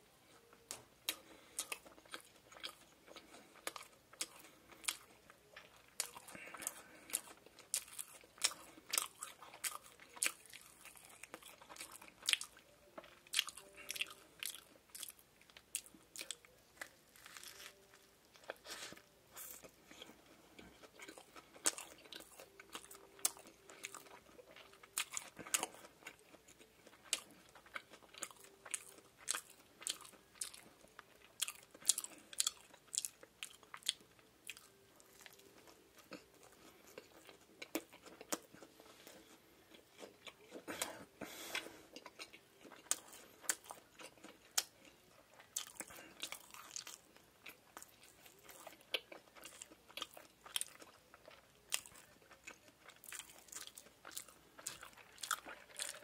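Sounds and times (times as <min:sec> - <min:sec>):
crunchy chewing: 0:01.0 - 0:56.0.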